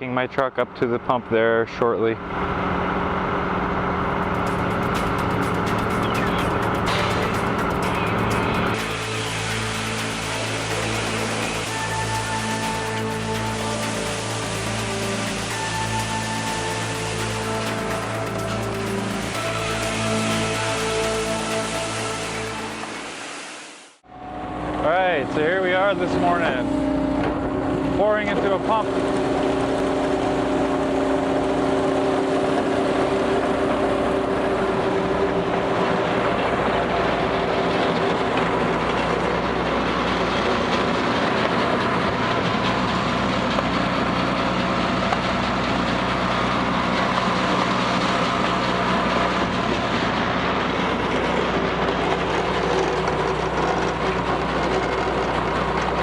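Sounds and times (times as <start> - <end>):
concrete mixer and pump droning: 0.0 - 56.0.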